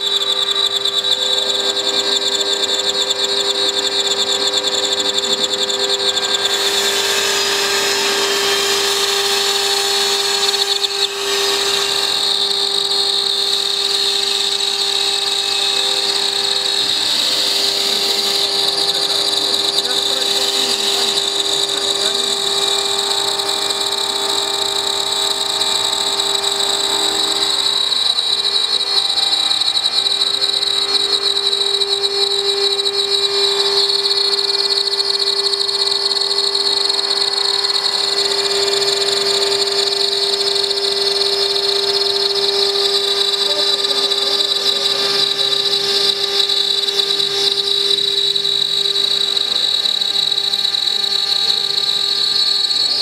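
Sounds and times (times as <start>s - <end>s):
milling machine high whine: 0.0s - 53.0s.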